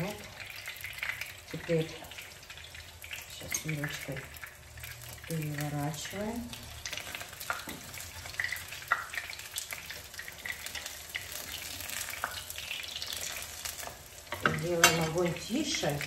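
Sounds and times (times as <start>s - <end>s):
patties sizzling in hot oil: 0.0s - 16.0s.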